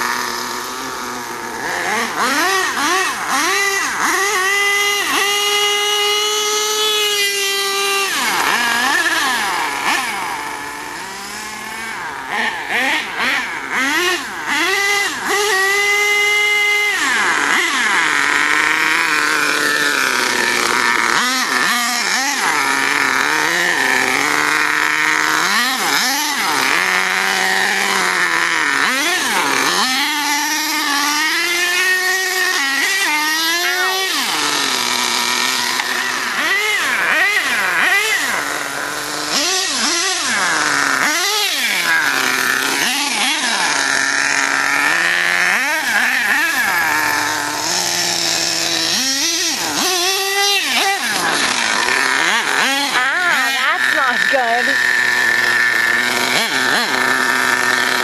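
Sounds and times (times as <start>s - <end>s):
rc truck engine revving: 0.0s - 58.0s.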